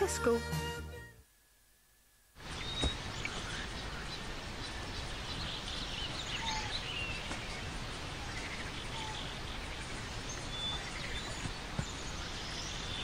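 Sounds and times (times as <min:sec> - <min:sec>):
bird chirps: 0:02.4 - 0:13.0.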